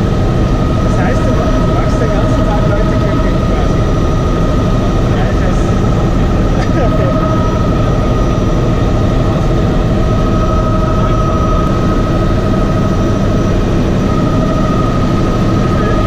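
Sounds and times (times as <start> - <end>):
helicopter turbine whine: 0.0 - 16.0
rotor and engine rumble: 0.0 - 16.0.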